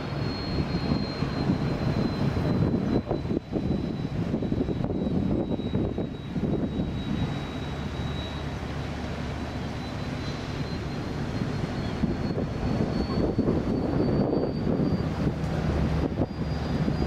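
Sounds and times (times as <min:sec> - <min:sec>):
ship machinery rumble: 0:00.0 - 0:17.0
thin high whine: 0:00.0 - 0:17.0.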